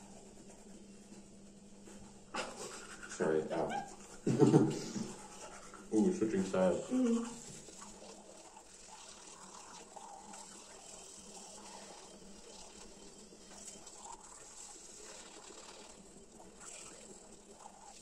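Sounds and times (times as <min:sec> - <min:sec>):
toothbrushes scrubbing teeth: 0:01.9 - 0:18.0.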